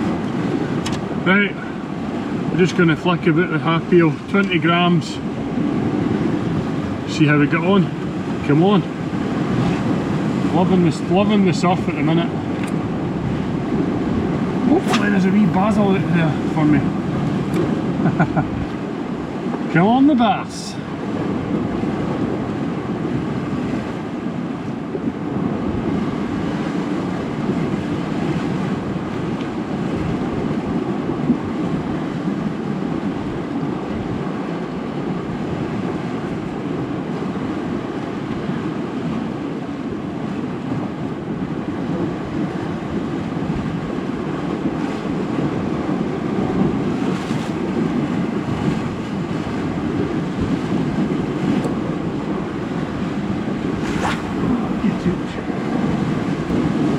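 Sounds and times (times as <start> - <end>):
sea surf washing ashore: 0.0 - 56.9
wind buffeting microphone: 0.0 - 56.9.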